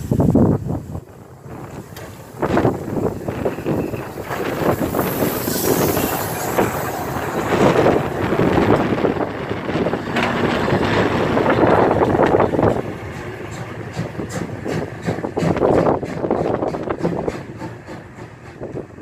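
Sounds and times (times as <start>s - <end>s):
high steam hiss: 0.0s - 19.0s
steam locomotive wheels clattering: 0.8s - 19.0s.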